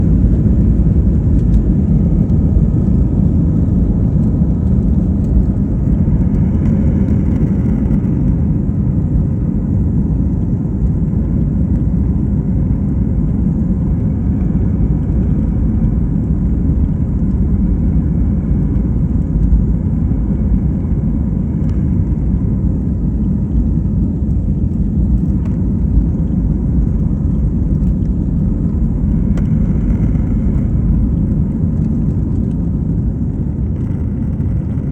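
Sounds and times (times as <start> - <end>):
airliner engines rumbling in cabin: 0.0 - 34.9.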